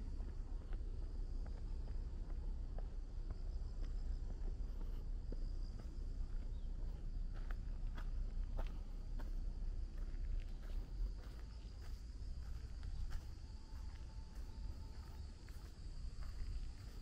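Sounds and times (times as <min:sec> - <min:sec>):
insects chirring: 0:00.0 - 0:17.0
low steady rumble: 0:00.0 - 0:17.0.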